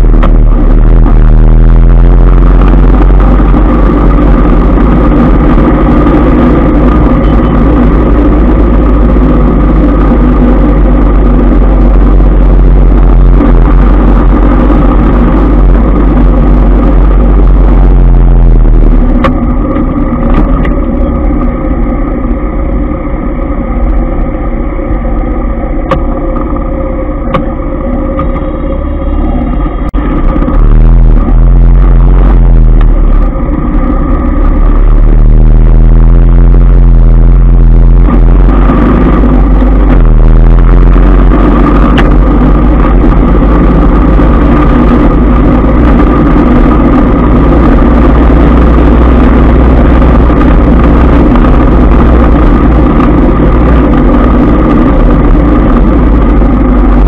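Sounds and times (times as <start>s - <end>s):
engines running: 0.0s - 57.0s
wind rumble on microphone: 0.0s - 57.0s.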